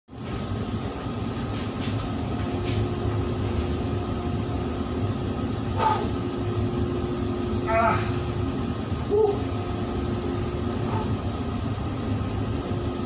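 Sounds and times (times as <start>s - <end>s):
ship machinery rumbling: 0.1s - 13.0s.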